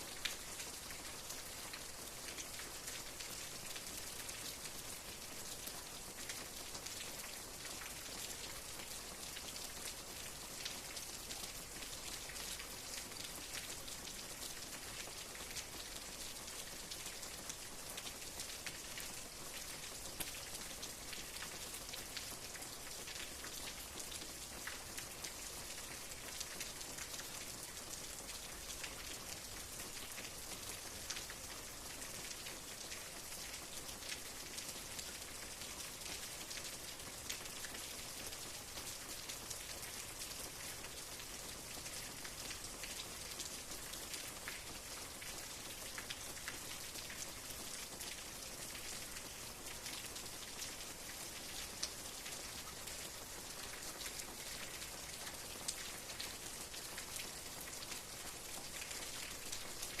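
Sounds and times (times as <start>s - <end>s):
rain drops pattering: 0.0s - 60.0s.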